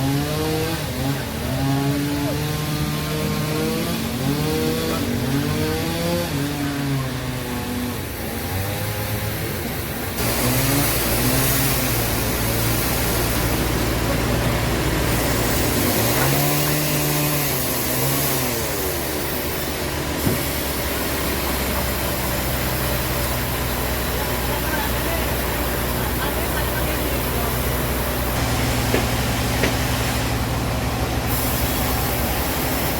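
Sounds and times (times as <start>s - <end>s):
saw cutting through wood: 0.0s - 32.9s
sawmill engine running: 0.0s - 32.9s.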